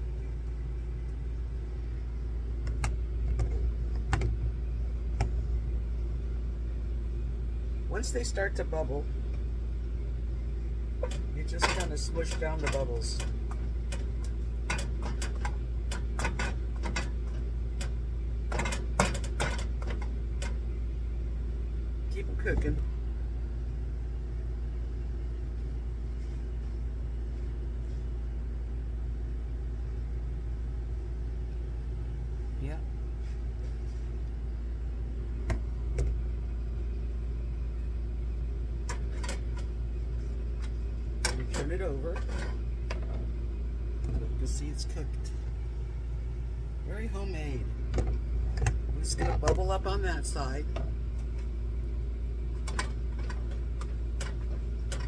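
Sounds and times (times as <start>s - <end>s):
steady low hum: 0.0s - 55.0s
steady low rumble: 0.0s - 55.0s.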